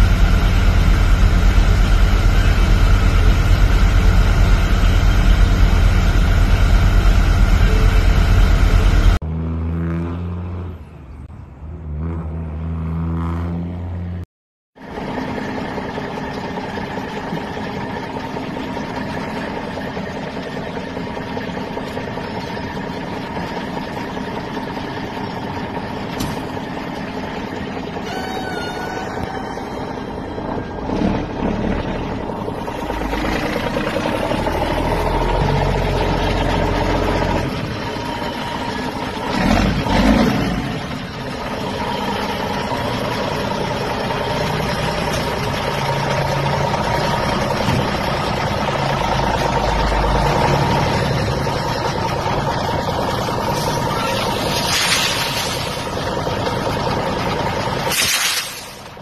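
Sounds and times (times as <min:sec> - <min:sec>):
diesel truck engine running: 0:00.0 - 0:09.8, 0:14.8 - 0:59.0.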